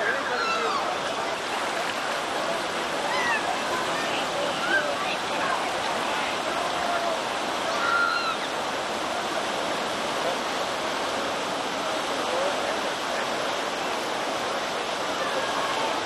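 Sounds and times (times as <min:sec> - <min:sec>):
river whitewater rushing: 0:00.0 - 0:16.0.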